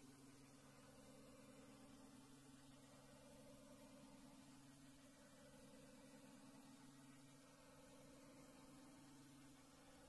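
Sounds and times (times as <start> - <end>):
faint low hum: 0.0 - 10.0
soft hiss: 0.0 - 10.0.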